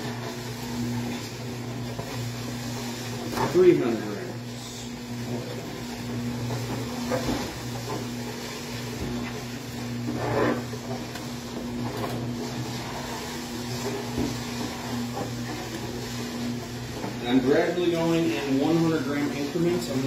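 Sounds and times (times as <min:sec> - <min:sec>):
machine motor hum: 0:00.0 - 0:20.0.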